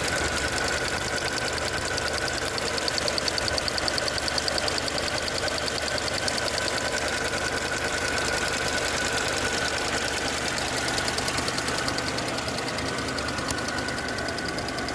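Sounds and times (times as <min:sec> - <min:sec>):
car engine idling: 0:00.0 - 0:14.9
purge valve ticking rapidly: 0:00.0 - 0:14.9.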